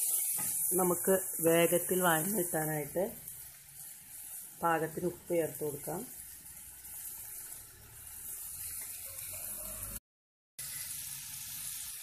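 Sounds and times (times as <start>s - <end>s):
vegetables sizzling in oil: 0.0s - 10.0s, 10.6s - 12.0s.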